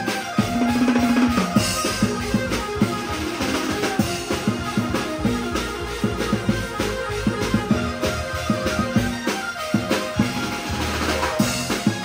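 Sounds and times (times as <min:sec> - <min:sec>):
drums beating quickly: 0:00.0 - 0:12.0
held instrumental note: 0:00.0 - 0:12.0
short melodic notes: 0:00.4 - 0:11.9.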